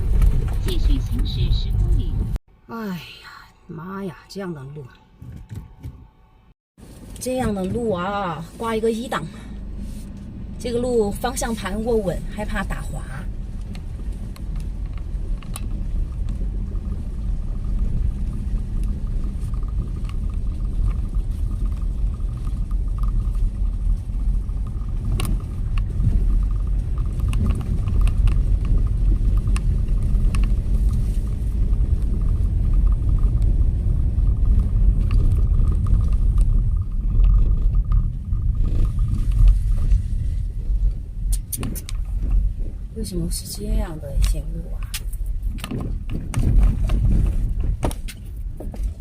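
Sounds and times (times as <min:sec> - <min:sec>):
car knocking and rattling: 0:00.0 - 0:02.4, 0:09.0 - 0:49.0
tyres rumbling on rough road: 0:00.0 - 0:03.0, 0:06.8 - 0:49.0.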